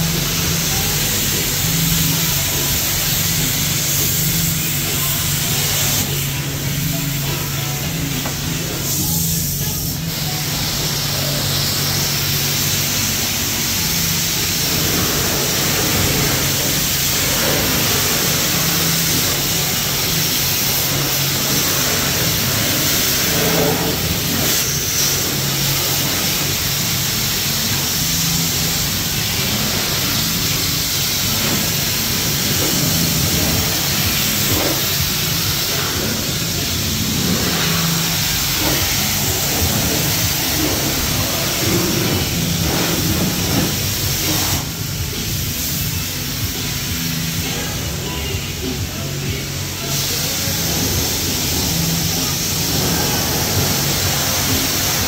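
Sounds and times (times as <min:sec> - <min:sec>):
high-pressure water spraying: 0:00.0 - 0:55.0.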